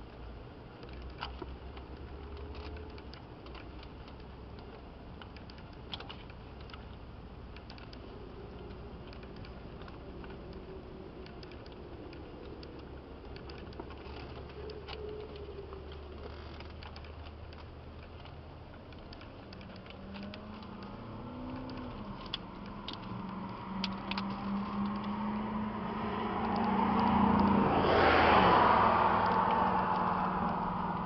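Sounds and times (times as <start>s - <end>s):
vehicle engine hum: 0.0s - 31.0s.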